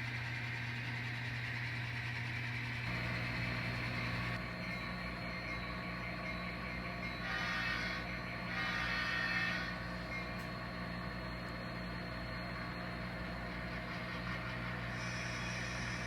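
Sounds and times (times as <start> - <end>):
model locomotive engine idling: 0.0 - 16.0.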